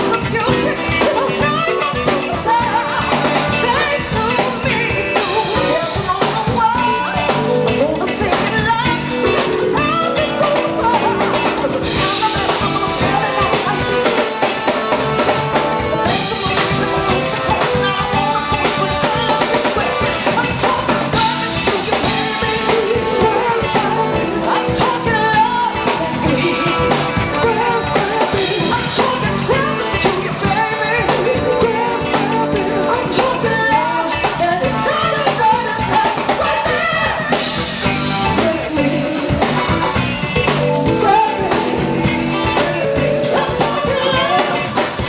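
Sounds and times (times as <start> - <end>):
drum kit: 0.0 - 45.0
guitar: 0.0 - 45.0
live band playing: 0.0 - 45.0
person singing: 0.0 - 45.0.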